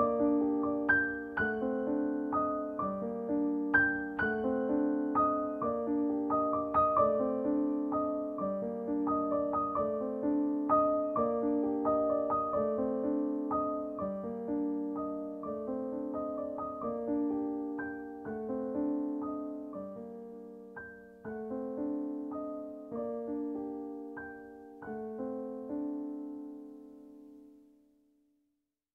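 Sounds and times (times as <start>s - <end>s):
gentle piano melody: 0.0s - 28.0s.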